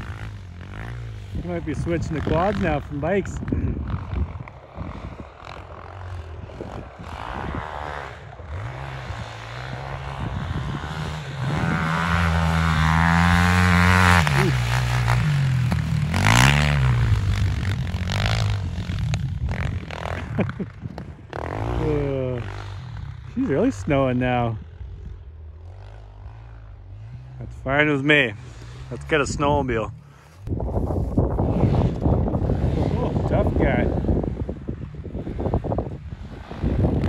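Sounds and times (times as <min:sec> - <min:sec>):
quad engine revving: 0:00.0 - 0:24.7, 0:31.4 - 0:37.0.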